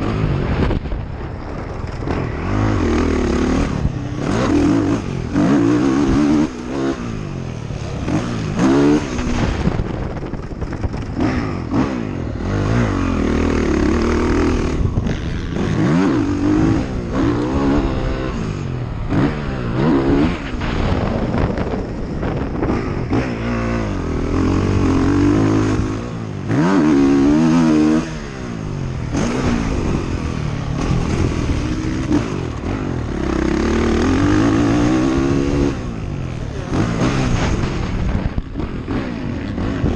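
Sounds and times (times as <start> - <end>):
atv engine revving: 1.5 - 39.9.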